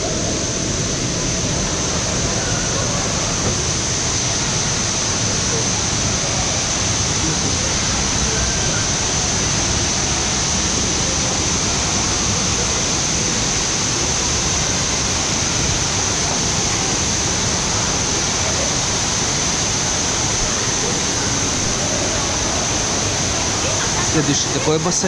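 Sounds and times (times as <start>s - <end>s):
running and splashing water: 0.0s - 25.0s.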